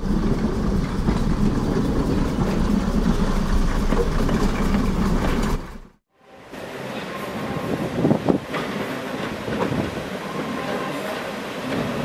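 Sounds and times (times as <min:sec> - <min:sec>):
train diesel engines idling: 0:00.0 - 0:12.0.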